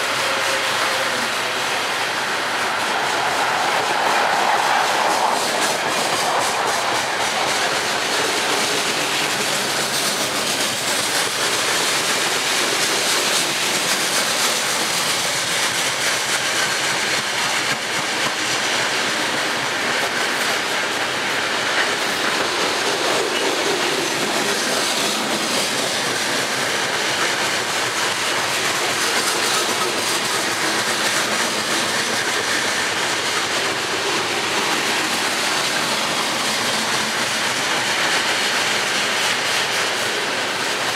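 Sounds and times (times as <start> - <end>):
freight train rolling past: 0.0 - 40.9
steel wheels running over rails: 0.0 - 40.9.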